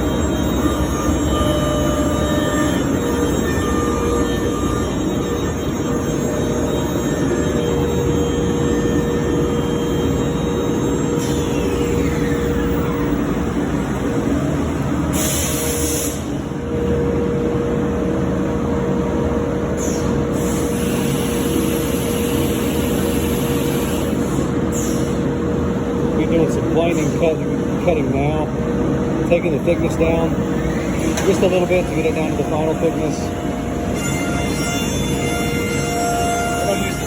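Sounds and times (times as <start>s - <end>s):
cnc router spindle whine: 0.0s - 37.0s.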